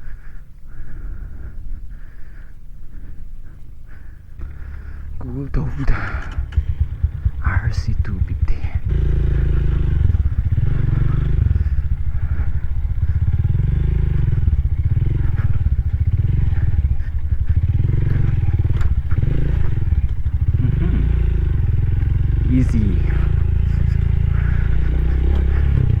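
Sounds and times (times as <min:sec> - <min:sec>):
motorcycle engine throbbing: 0:00.0 - 0:26.0.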